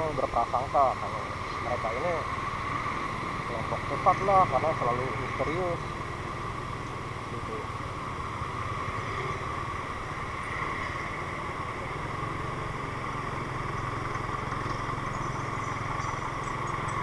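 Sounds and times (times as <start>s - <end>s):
motor scooter engine droning: 0.0s - 17.0s.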